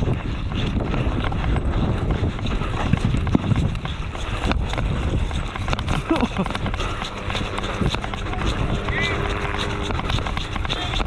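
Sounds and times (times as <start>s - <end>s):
running footsteps on ground: 0.0s - 11.0s.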